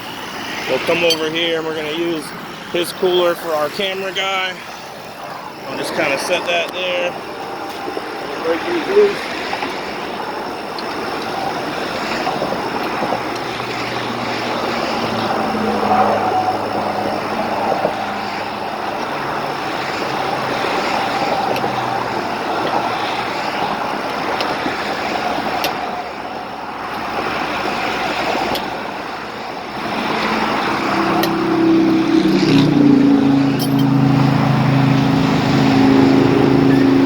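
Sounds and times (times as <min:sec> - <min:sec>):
heavy vehicle engine hum: 0:00.0 - 0:37.0
highway traffic roar: 0:00.0 - 0:37.0.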